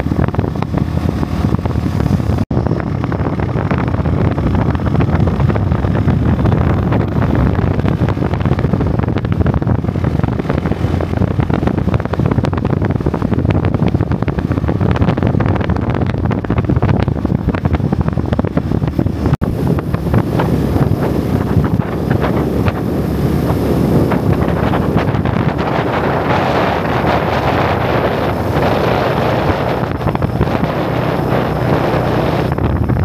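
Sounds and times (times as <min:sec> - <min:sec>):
motorbike running: 0:00.0 - 0:33.0
wind buffeting microphone: 0:00.0 - 0:33.0.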